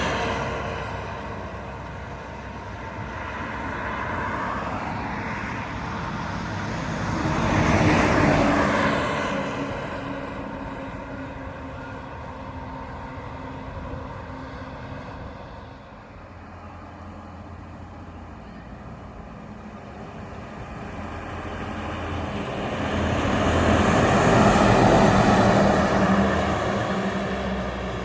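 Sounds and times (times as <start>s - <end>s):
heavy truck approaching: 0.0s - 28.0s.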